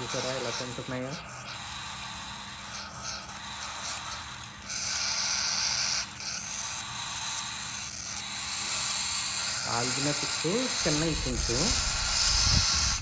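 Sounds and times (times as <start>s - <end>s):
chicks raspy hissing feeding calls: 0.0s - 13.0s.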